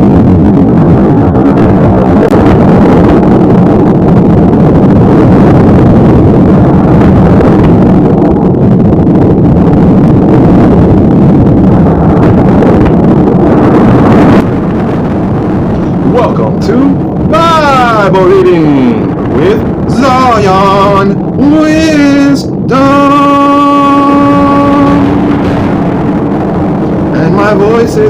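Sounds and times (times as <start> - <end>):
thunderstorm rushing: 0.0 - 28.0
wind buffeting microphone: 0.0 - 28.0.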